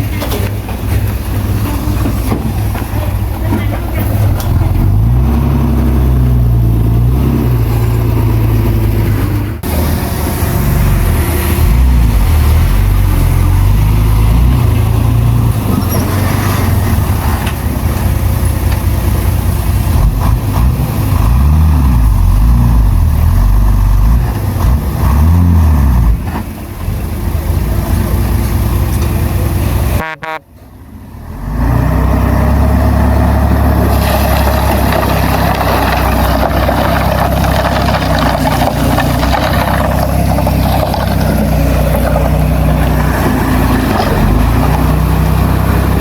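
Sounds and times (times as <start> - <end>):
heavy diesel engine running: 0.0 - 31.1, 32.0 - 46.0.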